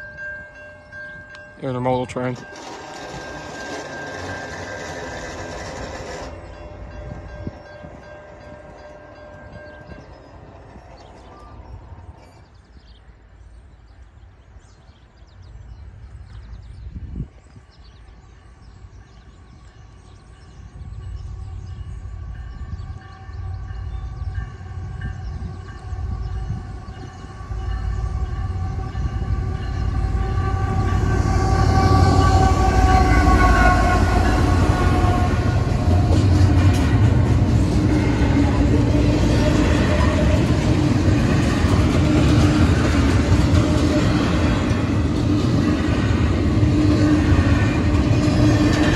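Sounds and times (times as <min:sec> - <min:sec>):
train rumble: 0:00.0 - 0:48.9.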